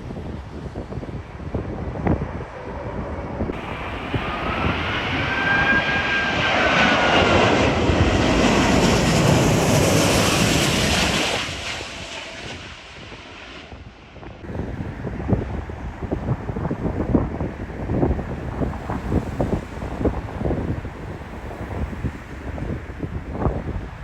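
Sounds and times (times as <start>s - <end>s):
airliner engines rushing: 0.0s - 24.0s
jet engine high whine: 0.3s - 23.0s.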